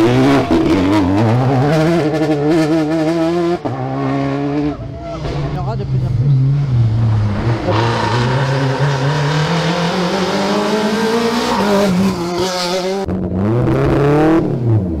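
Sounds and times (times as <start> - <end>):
car accelerating hard: 0.0 - 15.0
rally car engine revving: 0.0 - 15.0.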